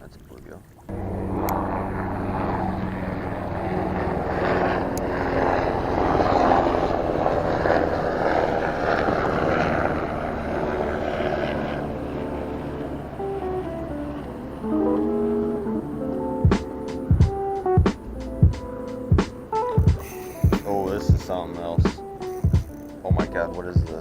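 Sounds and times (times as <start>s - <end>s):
motor droning: 0.9s - 24.0s.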